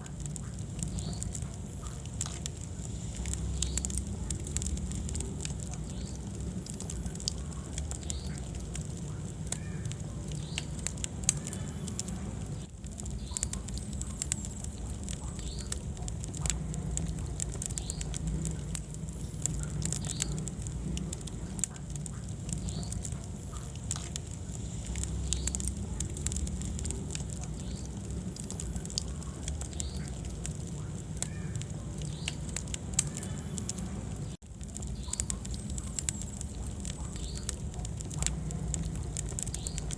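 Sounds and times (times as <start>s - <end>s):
fire crackles and pops: 0.0s - 39.9s
fire flames rumbling: 0.0s - 39.9s.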